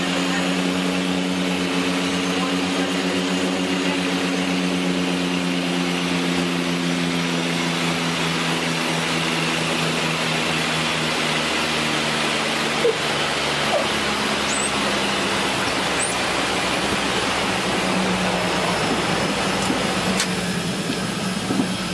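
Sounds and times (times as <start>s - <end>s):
aircraft engines droning: 0.0s - 21.9s.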